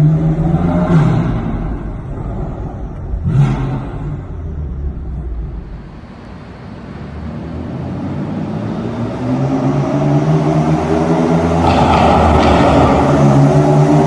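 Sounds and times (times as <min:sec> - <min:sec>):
car engine and exhaust running: 0:00.0 - 0:14.0.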